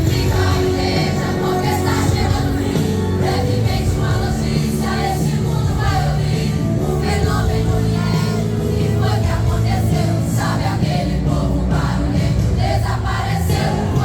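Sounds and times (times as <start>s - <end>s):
group singing gospel song: 0.0s - 14.0s.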